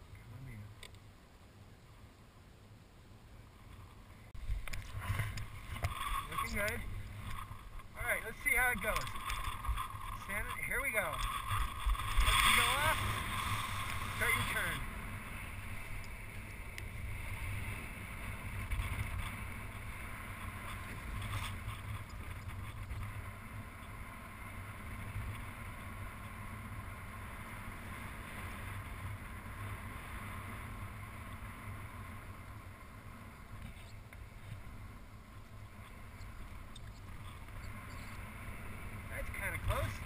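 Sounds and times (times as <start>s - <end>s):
wind rumble on microphone: 3.4s - 40.0s.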